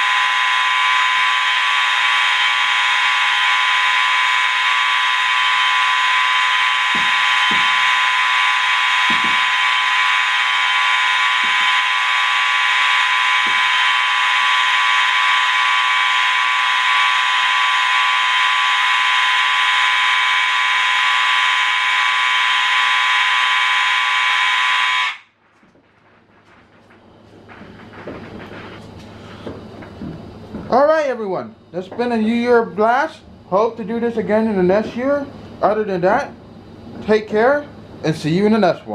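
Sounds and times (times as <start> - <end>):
many fire alarms sounding: 0.0 - 36.4.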